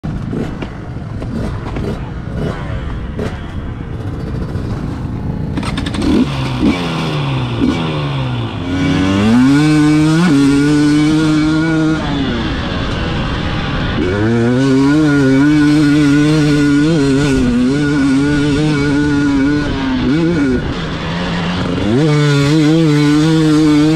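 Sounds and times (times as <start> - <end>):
dirt bike engine revving: 0.1 - 23.9
rough rattling noise: 0.1 - 23.9.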